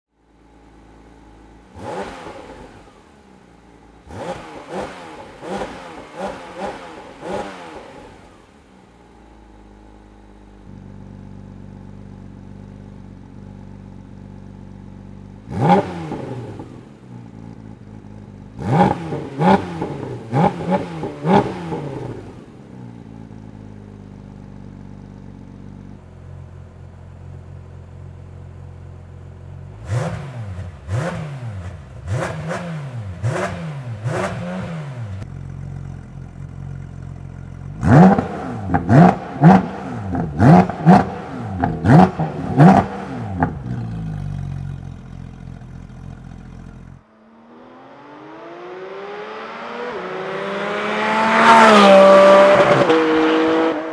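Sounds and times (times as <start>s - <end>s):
car engine idling: 0.1s - 49.5s
car engine revving: 0.6s - 24.0s, 24.6s - 53.9s.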